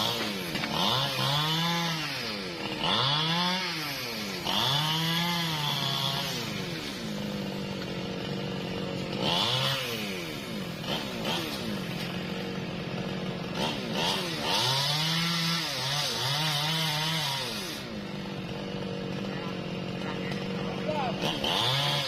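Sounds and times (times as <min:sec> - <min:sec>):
chainsaw revving and idling: 0:00.0 - 0:22.0.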